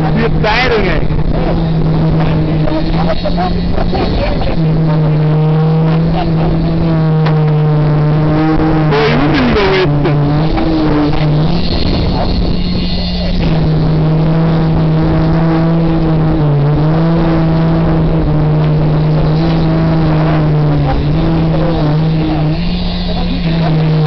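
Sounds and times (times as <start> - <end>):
concrete vibrator motor hum: 0.0 - 24.0.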